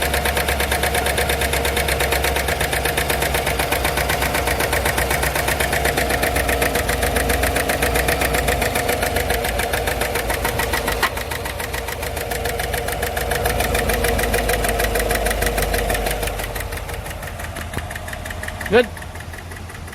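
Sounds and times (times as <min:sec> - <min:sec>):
engine idling with fast ticking: 0:00.0 - 0:19.9.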